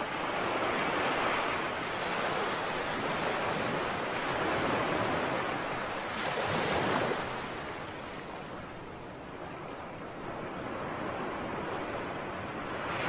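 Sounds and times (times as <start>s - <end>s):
waves washing in: 0.0s - 13.0s.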